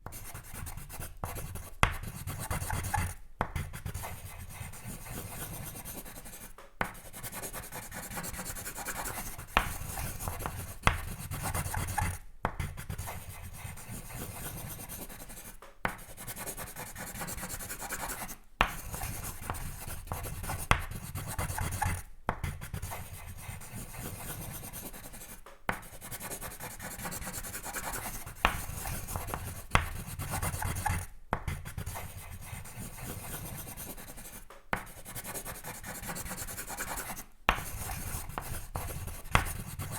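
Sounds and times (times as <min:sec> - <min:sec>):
pencil scratching on paper: 0:00.0 - 0:39.9.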